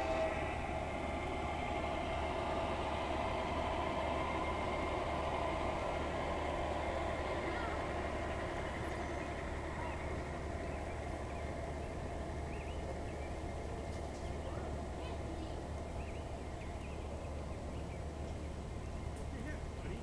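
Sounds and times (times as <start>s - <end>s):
birds chirping: 0.0s - 20.0s
model train wheels rumbling on rail: 0.0s - 20.0s.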